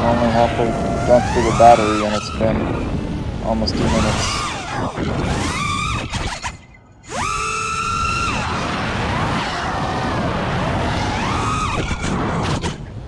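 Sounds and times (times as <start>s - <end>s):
quadcopter motors whining: 0.0s - 12.8s.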